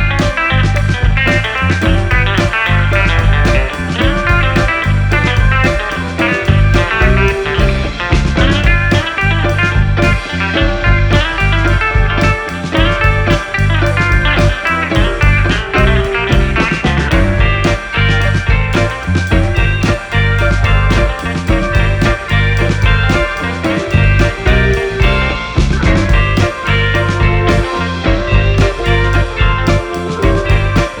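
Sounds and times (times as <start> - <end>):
blues rock music with guitar: 0.0 - 31.0.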